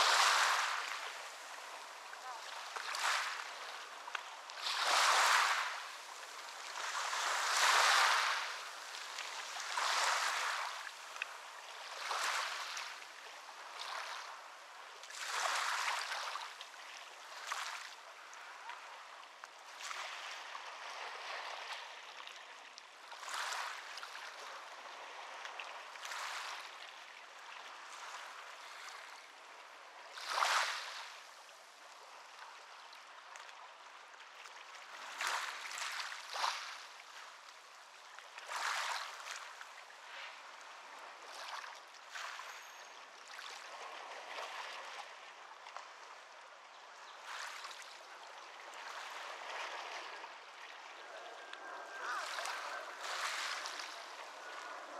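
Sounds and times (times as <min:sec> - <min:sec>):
small waves breaking on beach: 0:00.0 - 0:54.9.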